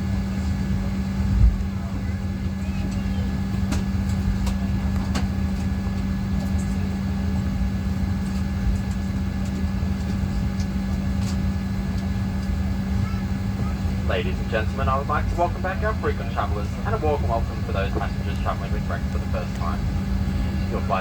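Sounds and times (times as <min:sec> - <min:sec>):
airplane cabin hum: 0:00.0 - 0:21.0.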